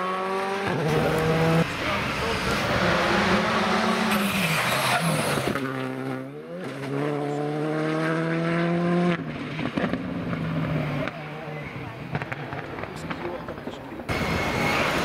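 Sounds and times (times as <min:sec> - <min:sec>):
rally car engine revving: 0:00.0 - 0:15.0
tyre and road noise: 0:00.0 - 0:15.0.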